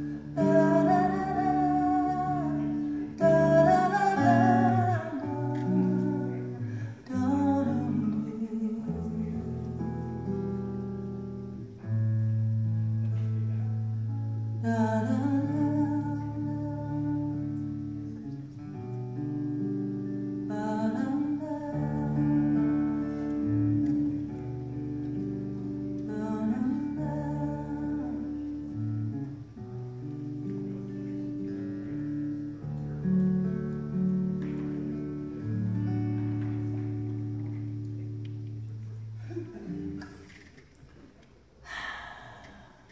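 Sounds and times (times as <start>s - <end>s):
acoustic guitar chords: 0.0s - 40.8s.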